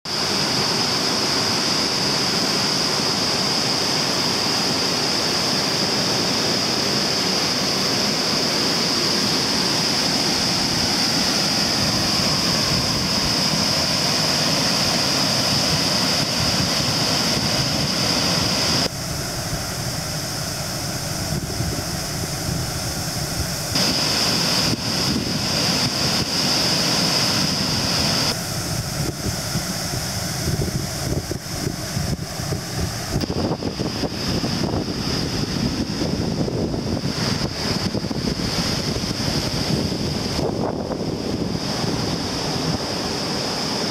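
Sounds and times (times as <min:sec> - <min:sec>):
steady high hiss: 0:00.1 - 0:43.9
waterfall rushing water: 0:00.1 - 0:43.9.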